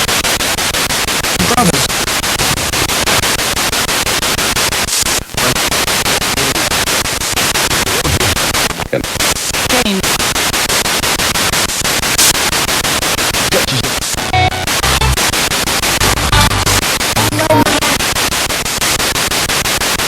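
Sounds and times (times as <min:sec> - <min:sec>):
pulsing radio static: 0:00.0 - 0:20.0
snatches of broadcast sound: 0:00.0 - 0:20.0.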